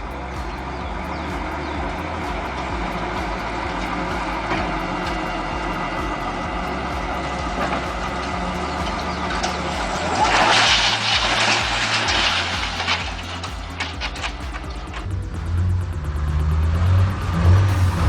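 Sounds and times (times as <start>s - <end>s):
heavy vehicle engine running: 0.0s - 18.0s
loud rushing noise: 0.0s - 18.0s.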